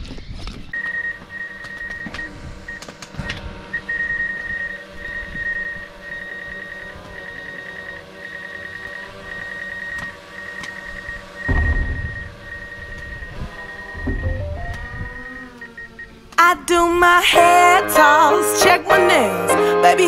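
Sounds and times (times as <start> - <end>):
drone motors whining: 0.0 - 16.4.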